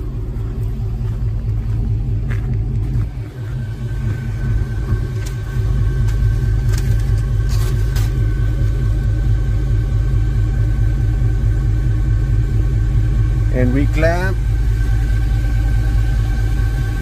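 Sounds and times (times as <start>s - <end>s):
subwoofer deep rumble: 0.0s - 17.0s.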